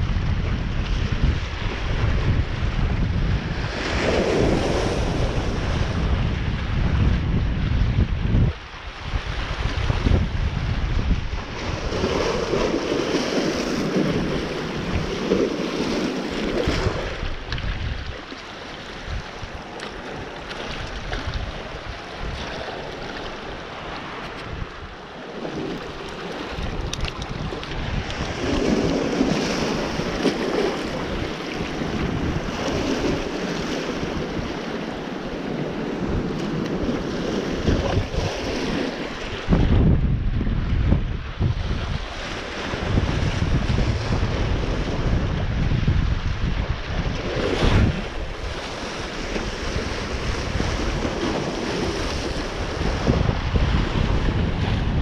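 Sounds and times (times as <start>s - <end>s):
water and waves washing: 0.0s - 55.0s
wind buffeting microphone: 0.0s - 55.0s.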